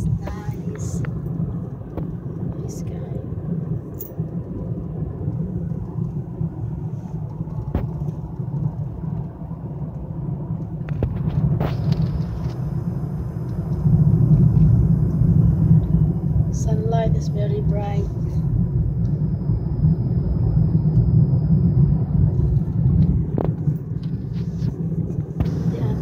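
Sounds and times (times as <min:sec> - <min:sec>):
car cabin road rumble: 0:00.0 - 0:26.0.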